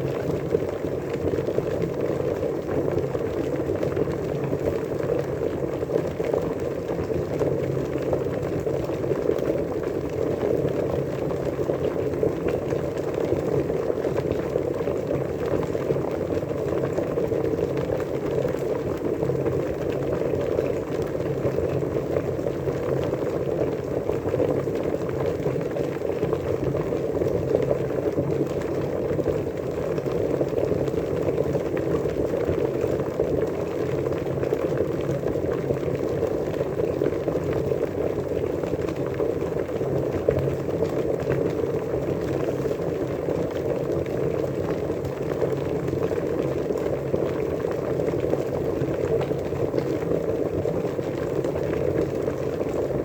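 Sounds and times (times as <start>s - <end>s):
water boiling and bubbling: 0.0s - 53.0s.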